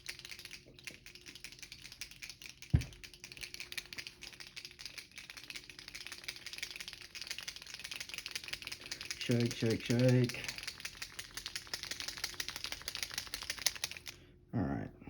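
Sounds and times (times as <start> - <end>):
paint pen ball rattling: 0.0 - 14.2.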